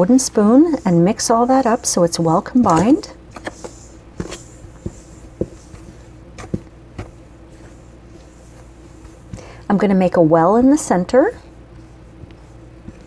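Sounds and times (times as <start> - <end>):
faint steady hum: 0.0 - 13.0
spoon scraping flour in bowl: 0.1 - 13.0.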